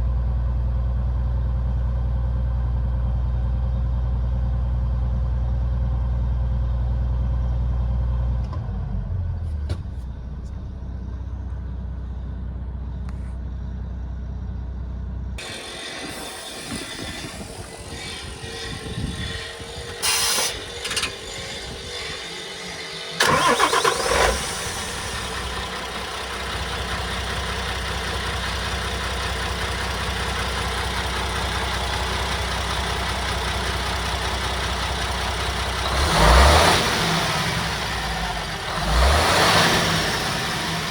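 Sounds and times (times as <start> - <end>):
diesel truck engine starting: 7.2 - 40.9.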